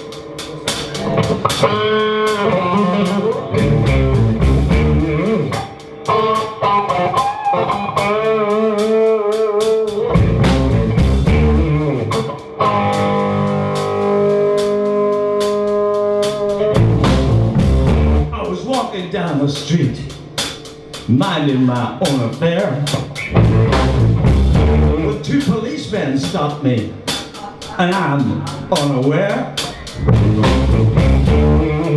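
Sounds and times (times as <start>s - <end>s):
lead guitar bent notes: 0.0s - 21.7s, 22.8s - 25.6s, 29.5s - 31.9s
blues band playing: 0.0s - 31.9s
drum kit: 0.0s - 31.9s.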